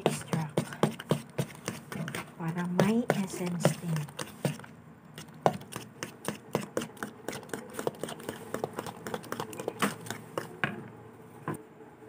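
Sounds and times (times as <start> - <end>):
spoon stirring batter in plastic bowl: 0.0 - 10.6.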